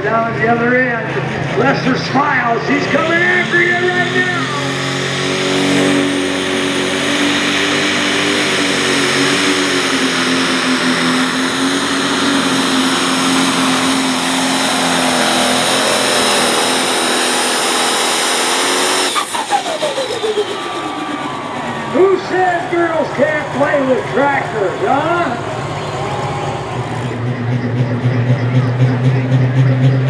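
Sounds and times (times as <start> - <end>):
diesel tractor engine at full power: 0.0 - 30.0.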